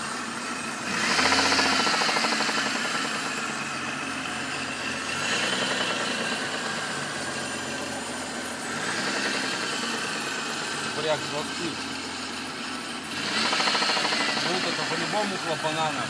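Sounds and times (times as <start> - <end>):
engine idling with rhythmic knock: 0.0 - 16.0.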